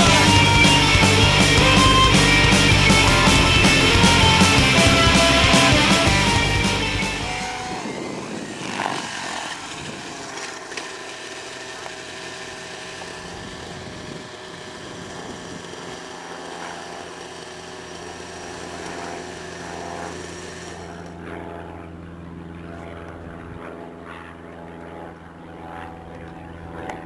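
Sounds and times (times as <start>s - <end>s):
model helicopter engine and rotor: 0.0s - 27.0s.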